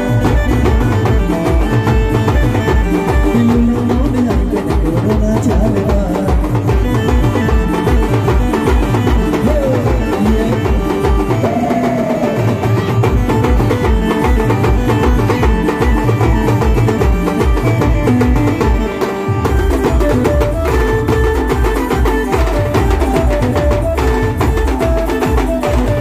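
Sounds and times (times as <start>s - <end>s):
sustained melody line: 0.0s - 26.0s.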